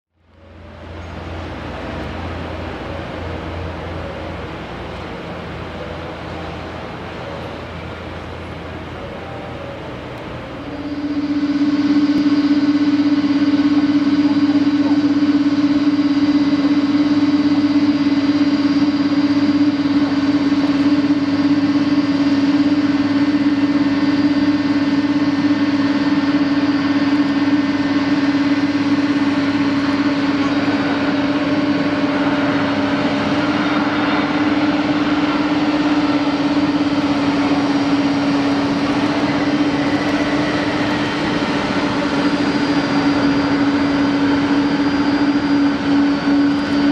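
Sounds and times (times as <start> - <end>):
engine drone: 0.1 - 46.9.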